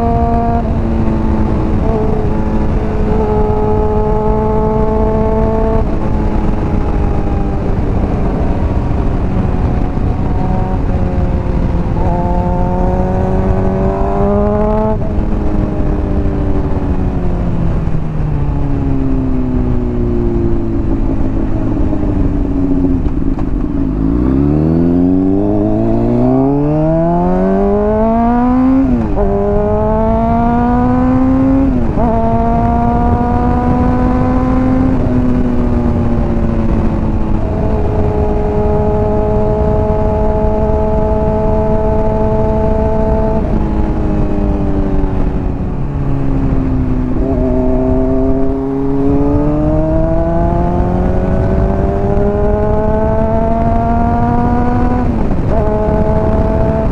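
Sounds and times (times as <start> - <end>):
motorcycle engine revving: 0.0 - 56.9
wind rush: 0.0 - 56.9.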